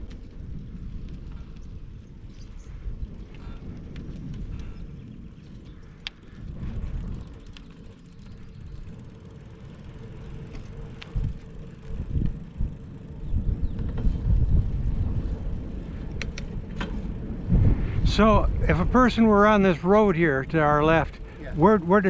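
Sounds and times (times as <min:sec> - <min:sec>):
bicycle clicks: 0:00.0 - 0:22.0
wind rumbling on microphone: 0:00.0 - 0:22.0.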